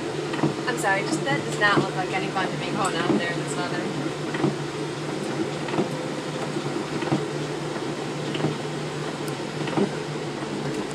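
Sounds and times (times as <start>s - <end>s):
low motor hum: 0.0s - 10.9s.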